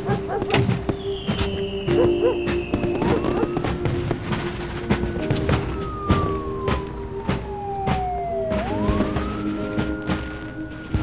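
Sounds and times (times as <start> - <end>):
background music with steady beat: 0.0 - 11.0
siren wailing: 0.0 - 11.0.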